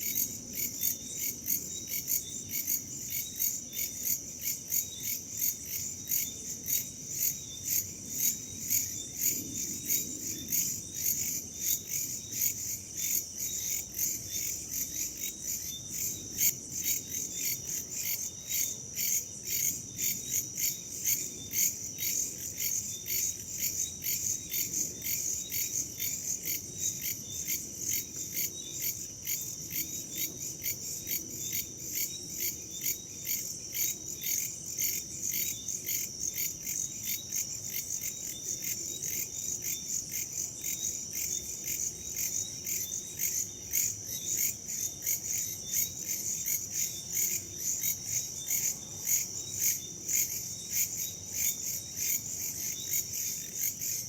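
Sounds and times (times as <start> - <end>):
crickets chirping: 0.0 - 54.0
faint wind: 0.0 - 54.0.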